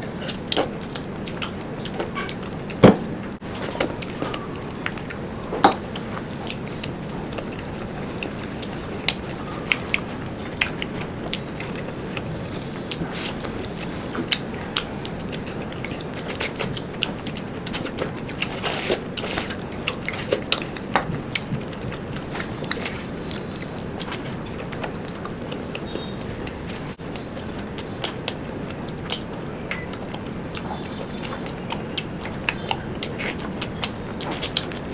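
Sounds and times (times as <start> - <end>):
chewing and biting: 0.0 - 34.9.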